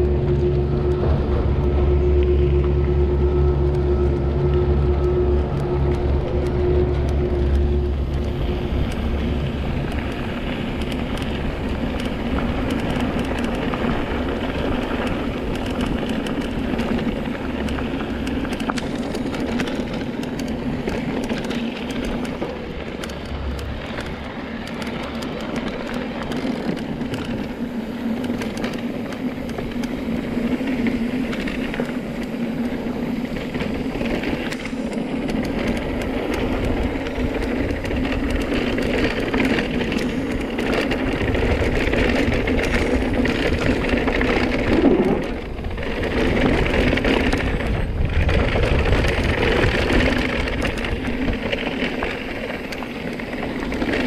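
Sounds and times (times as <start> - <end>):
vehicle engine rumble: 0.0 - 54.0.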